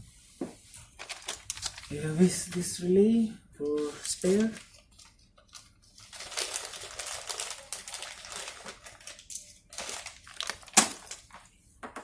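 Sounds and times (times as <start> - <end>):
rustling of small parts: 0.9 - 2.8, 3.7 - 11.5.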